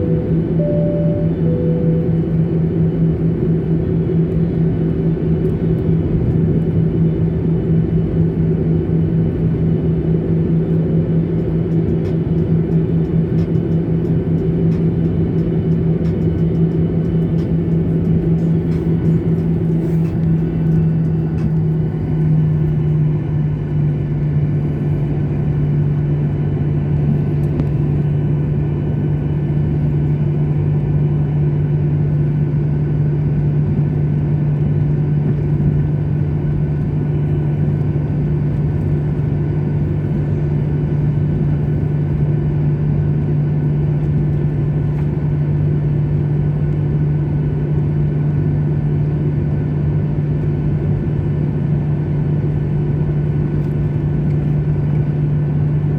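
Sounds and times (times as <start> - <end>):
airliner cabin engine drone: 0.0 - 55.9.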